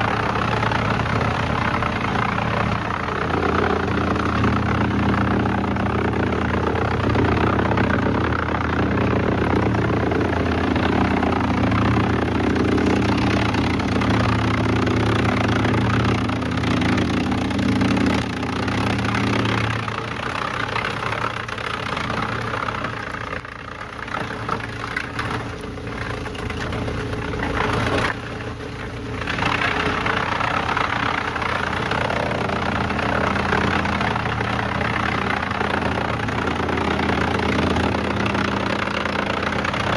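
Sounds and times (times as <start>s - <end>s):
heavy machinery engine: 0.0s - 39.9s.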